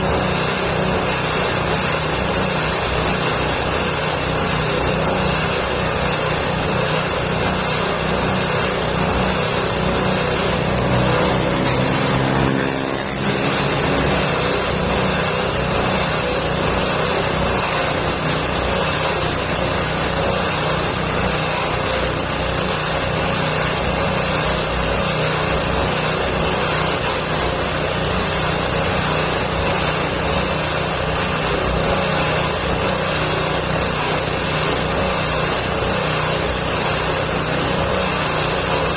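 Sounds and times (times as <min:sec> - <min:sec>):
chopper machine shredding branches: 0:00.0 - 0:38.9.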